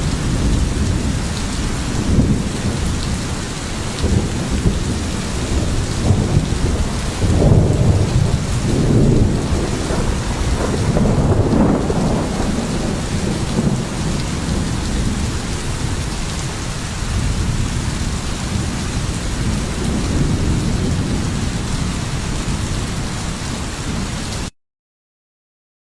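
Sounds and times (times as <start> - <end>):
heavy rain falling: 0.0 - 24.5
thunder rumbling: 0.0 - 24.5.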